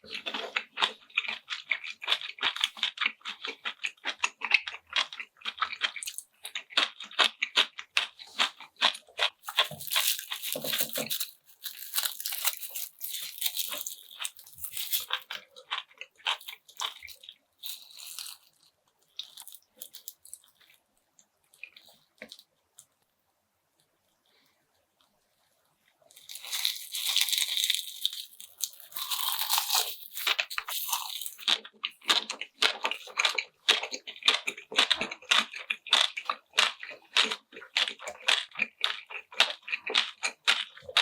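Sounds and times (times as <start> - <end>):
person chewing crunchy food: 0.0 - 23.0, 25.9 - 41.0.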